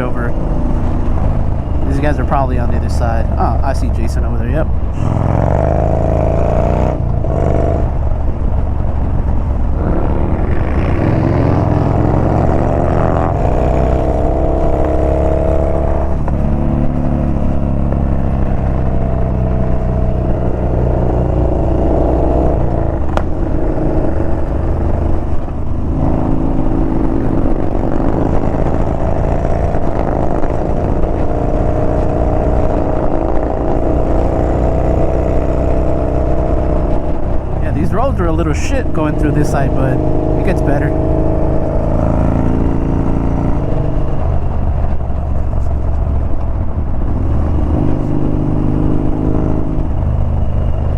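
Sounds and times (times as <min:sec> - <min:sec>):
motorcycle engine accelerating: 0:00.0 - 0:50.9
wind and road noise: 0:00.0 - 0:50.9.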